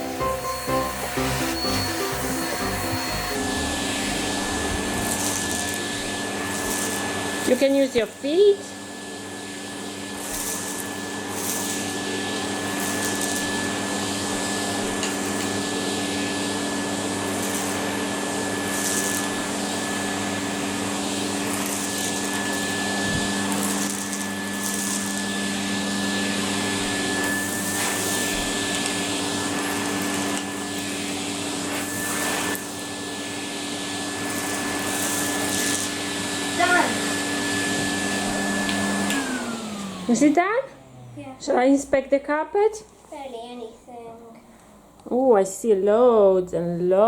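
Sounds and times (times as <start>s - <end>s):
vacuum cleaner running: 0.0s - 42.7s.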